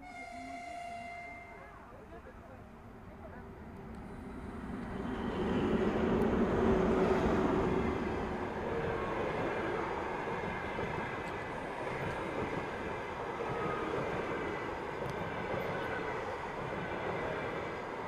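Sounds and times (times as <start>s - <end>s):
electric locomotive humming: 0.0s - 18.0s
train wheels on rails: 3.2s - 18.0s.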